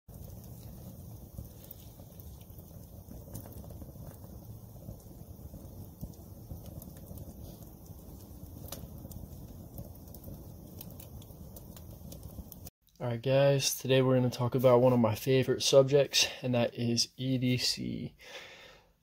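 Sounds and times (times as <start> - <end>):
wood fire crackling: 0.1 - 18.8.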